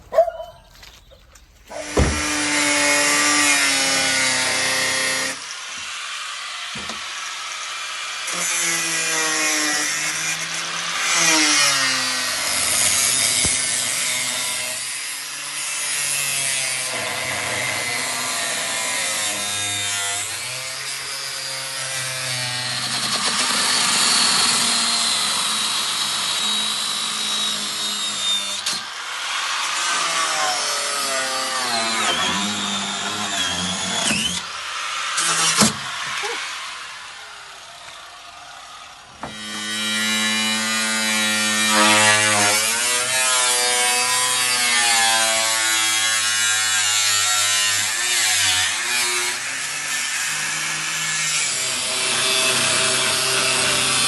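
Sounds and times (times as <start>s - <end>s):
power tool cutting metal: 1.7s - 54.0s.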